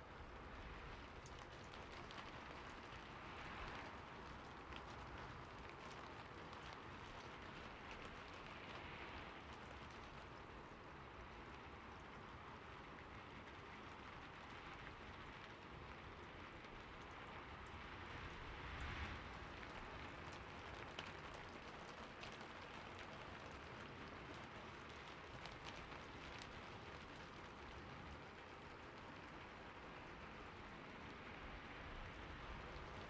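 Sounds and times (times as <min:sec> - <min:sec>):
rain on a roof: 0:00.0 - 0:33.0.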